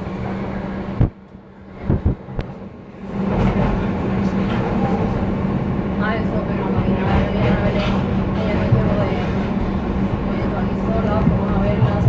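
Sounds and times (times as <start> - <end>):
train hum and rumble: 0.0 - 12.0.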